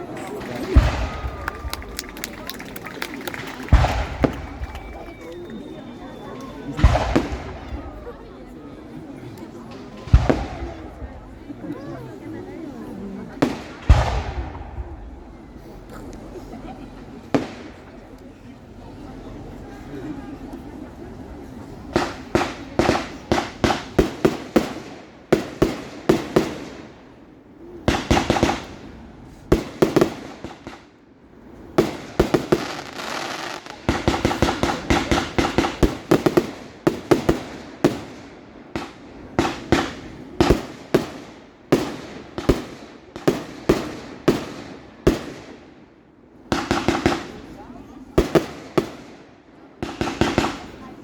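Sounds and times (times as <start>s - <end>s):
crackling firework bursts: 0.0s - 8.3s, 9.5s - 11.6s, 13.3s - 18.4s, 21.6s - 51.0s
fireworks bursting with loud bangs: 0.0s - 8.8s, 9.4s - 11.9s, 13.2s - 18.4s, 21.5s - 51.0s.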